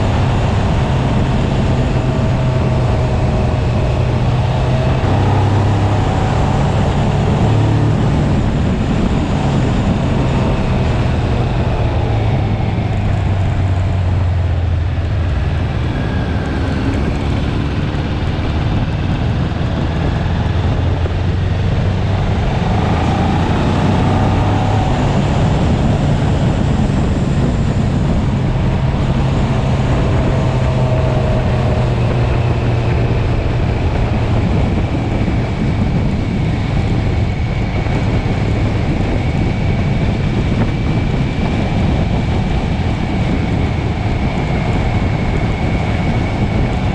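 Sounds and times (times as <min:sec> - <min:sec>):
motorcycle engine cruising: 0:00.0 - 0:46.9
wind noise on microphone: 0:00.0 - 0:46.9.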